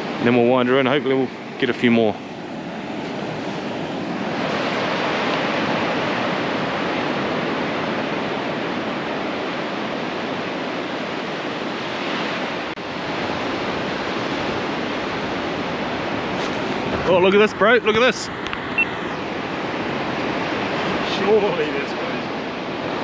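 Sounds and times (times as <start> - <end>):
ocean surf breaking on beach: 0.0 - 23.0
wind: 0.0 - 23.0.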